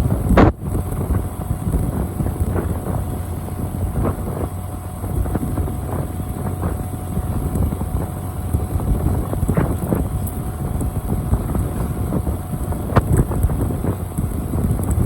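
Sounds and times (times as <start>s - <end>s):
motorcycle rumbling: 0.0s - 15.0s
wind buffeting microphone: 0.0s - 15.0s.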